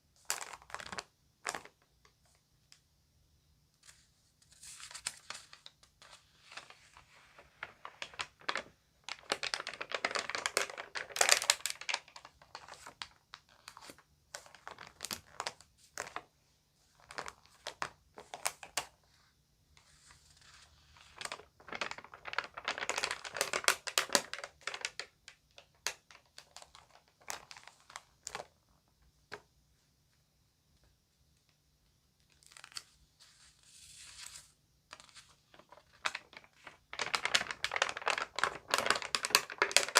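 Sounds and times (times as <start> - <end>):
magazine pages crinkling: 0.2 - 1.8, 3.8 - 16.3, 16.9 - 19.0, 19.9 - 28.5, 32.2 - 39.9.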